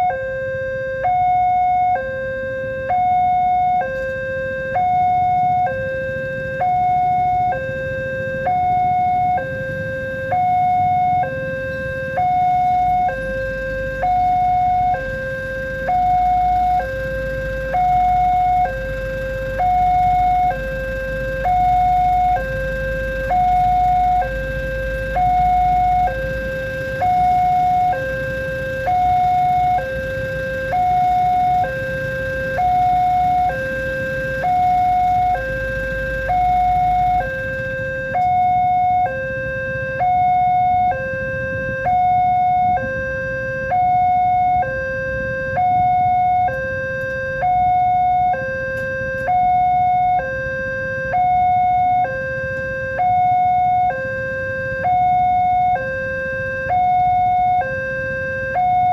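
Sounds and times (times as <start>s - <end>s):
level crossing two-tone alarm: 0.0s - 58.9s.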